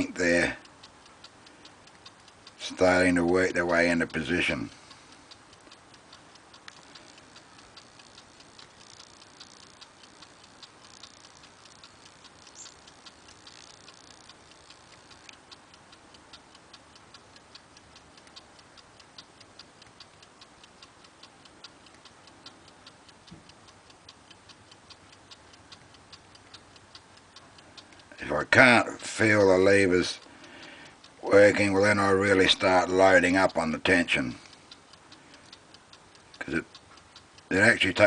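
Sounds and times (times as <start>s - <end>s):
clock ticking: 0.0s - 38.0s.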